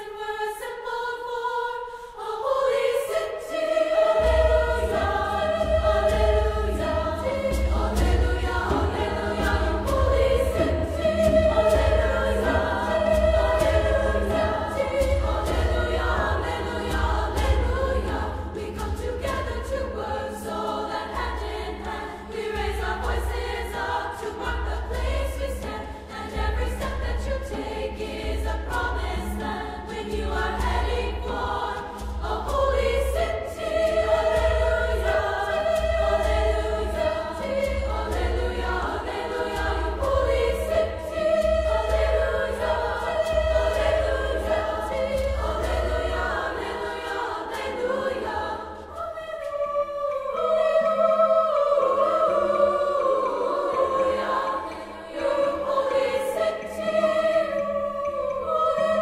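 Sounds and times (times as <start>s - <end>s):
women's chorus singing: 0.0s - 59.0s.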